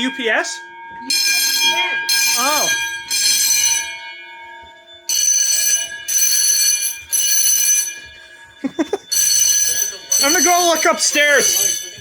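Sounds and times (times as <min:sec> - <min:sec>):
fire alarm bells ringing: 0:00.0 - 0:12.0.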